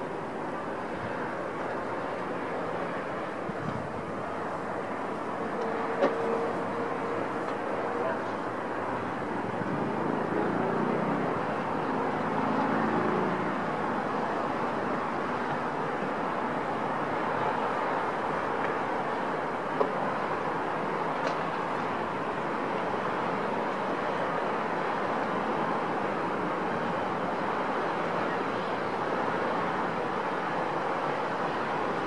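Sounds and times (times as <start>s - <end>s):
distant city traffic: 0.0s - 32.0s.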